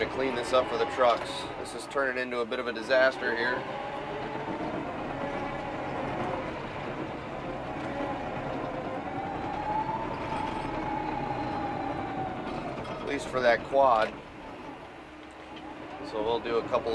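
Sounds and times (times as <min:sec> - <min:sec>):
bulldozer diesel engine running: 0:00.0 - 0:16.9.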